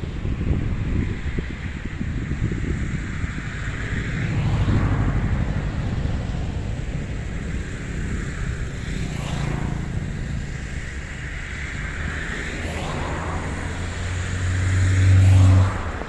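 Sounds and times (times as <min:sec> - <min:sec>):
engine noise: 0:00.0 - 0:16.0
wind on microphone: 0:00.0 - 0:16.0.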